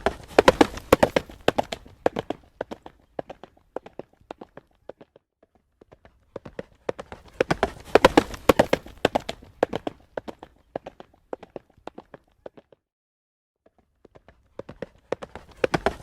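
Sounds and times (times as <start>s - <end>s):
horse hooves trotting on road: 0.0s - 12.8s, 14.0s - 16.0s.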